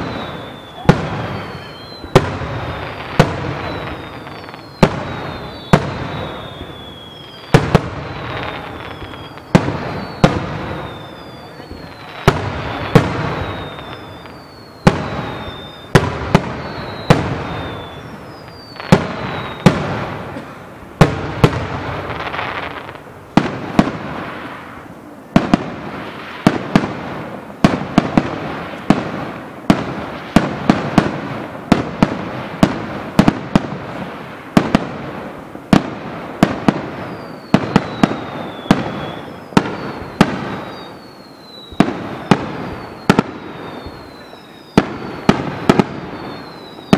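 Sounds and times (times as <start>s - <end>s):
whistling firework shells: 0.0s - 46.9s.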